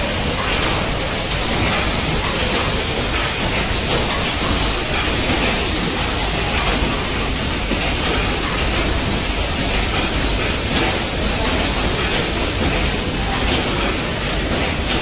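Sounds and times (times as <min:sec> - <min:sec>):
machinery fans and hum: 0:00.0 - 0:15.0.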